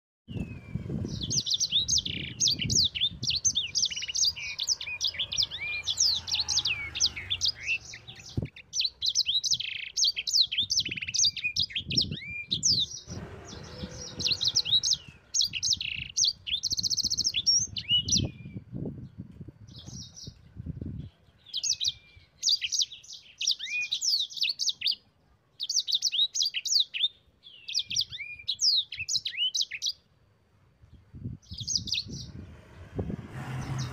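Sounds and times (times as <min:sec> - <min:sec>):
songbird singing chirps and trills: 0:00.3 - 0:33.9.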